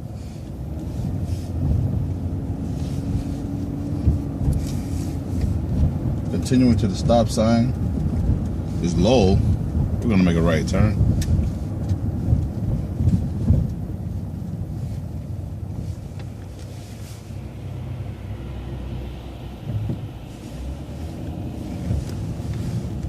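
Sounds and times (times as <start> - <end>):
bus engine and road rumble: 0.0 - 23.0.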